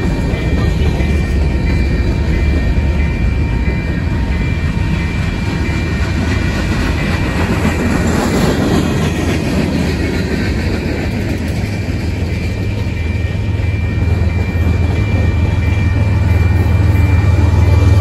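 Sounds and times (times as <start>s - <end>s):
train rumbling by: 0.0s - 18.0s
wheels on rails: 0.0s - 18.0s.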